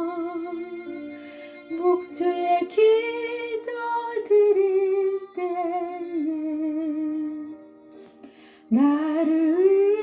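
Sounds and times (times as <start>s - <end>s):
woman singing a hymn: 0.0s - 7.7s, 8.7s - 10.0s.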